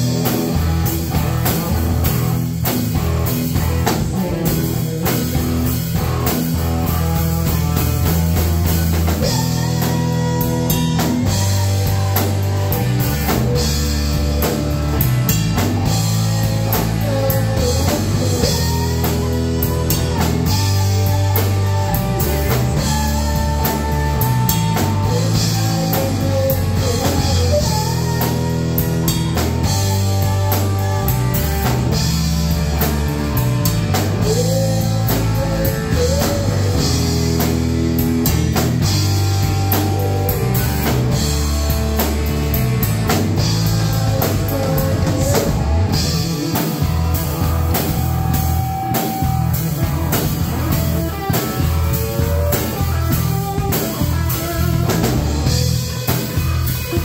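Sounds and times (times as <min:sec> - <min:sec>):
bass guitar notes: 0:00.0 - 0:57.0
drum kit beat: 0:00.0 - 0:57.0
electric guitar: 0:00.0 - 0:57.0.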